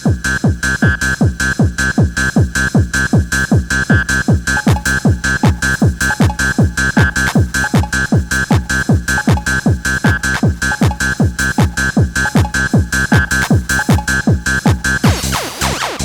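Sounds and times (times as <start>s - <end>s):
pounding kick drum: 0.0s - 16.0s.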